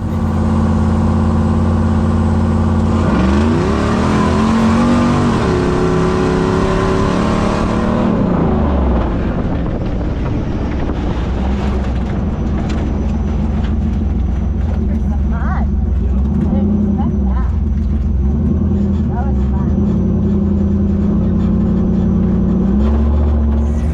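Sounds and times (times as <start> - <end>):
vehicle engine idling and revving: 0.0 - 23.9.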